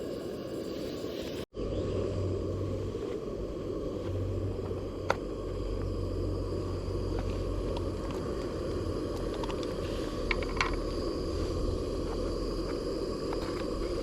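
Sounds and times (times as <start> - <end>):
camping stove burning: 0.0 - 14.0.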